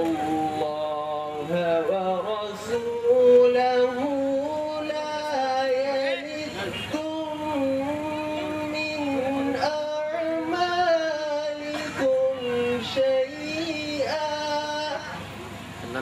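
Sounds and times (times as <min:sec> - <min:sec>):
man chanting into a microphone: 0:00.0 - 0:15.2.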